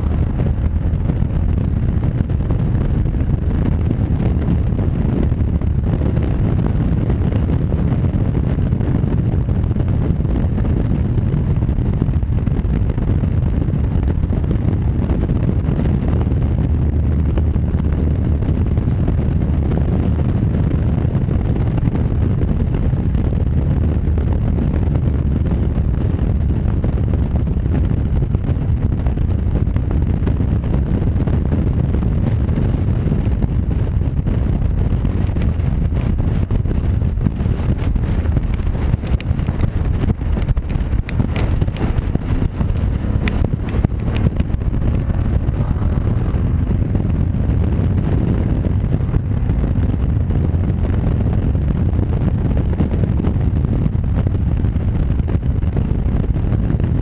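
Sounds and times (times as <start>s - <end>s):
motorcycle cruising: 0.0s - 57.0s
wind buffeting microphone: 0.0s - 57.0s.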